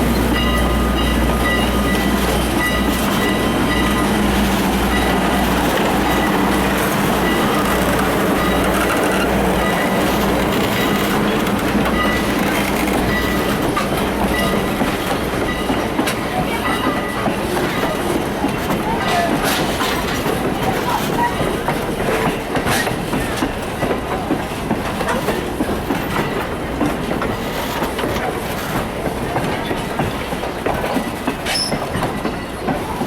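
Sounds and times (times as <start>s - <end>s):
train wheels running on rails: 0.0s - 33.0s.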